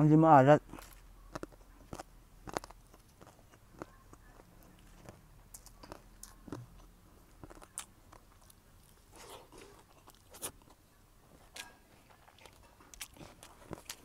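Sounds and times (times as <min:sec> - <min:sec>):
chewing and crunching: 0:00.6 - 0:14.0.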